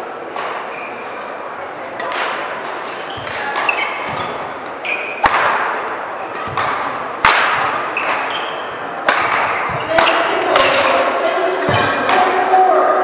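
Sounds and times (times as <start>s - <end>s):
court shoes squeaking: 0.2s - 12.4s
racket striking shuttlecock: 0.3s - 0.7s, 2.0s - 12.4s.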